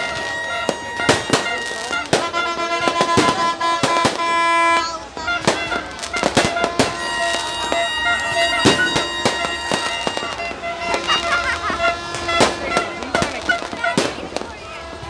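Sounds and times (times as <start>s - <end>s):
crowd voices: 0.0s - 15.0s
fireworks bangs: 0.0s - 15.0s
steady horn-like tone: 0.0s - 15.0s.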